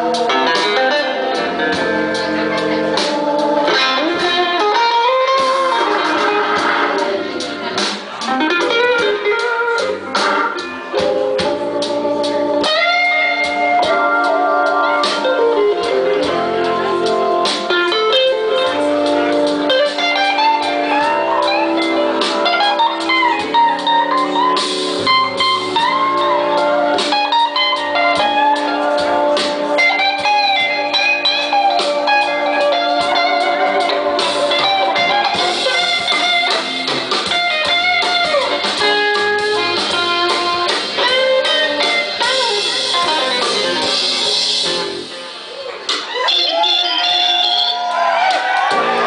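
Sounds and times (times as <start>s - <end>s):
guitar bending notes: 0.0s - 48.0s
blues-rock band playing: 0.0s - 49.0s.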